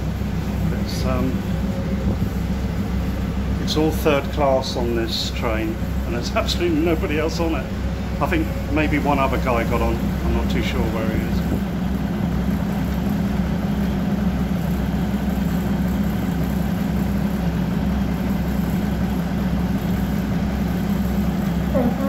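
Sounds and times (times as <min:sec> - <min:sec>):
diesel train engine idling: 0:00.0 - 0:22.0.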